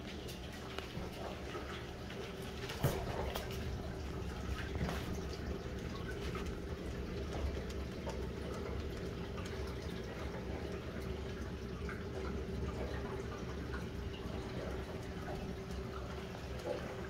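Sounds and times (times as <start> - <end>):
pump hum: 0.0 - 17.0
small water drips: 0.0 - 17.0
water trickling and splashing: 0.0 - 17.0.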